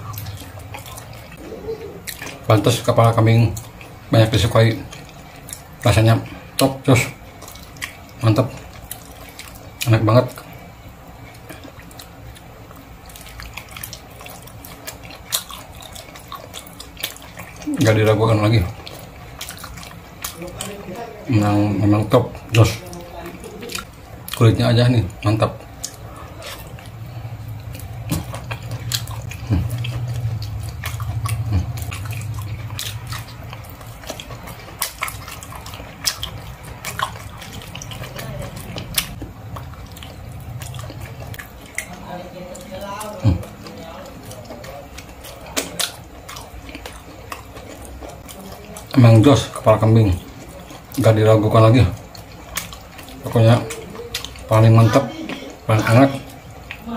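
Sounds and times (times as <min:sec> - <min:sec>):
low steady hum: 0:00.0 - 0:56.9
wet chewing and lip-smacking: 0:00.0 - 0:56.9.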